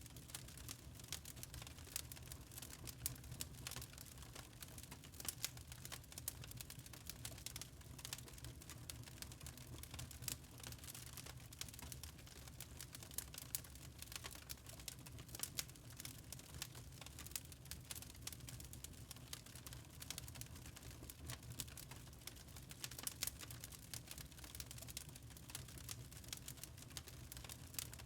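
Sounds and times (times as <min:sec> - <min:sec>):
log fire crackling: 0:00.1 - 0:28.0.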